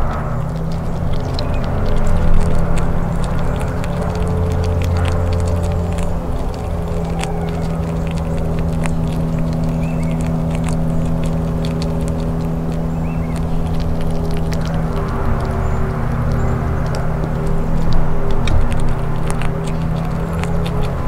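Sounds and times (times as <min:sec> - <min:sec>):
air conditioner humming: 0:00.0 - 0:21.0
squirrel cracking and chewing nut: 0:00.0 - 0:21.0.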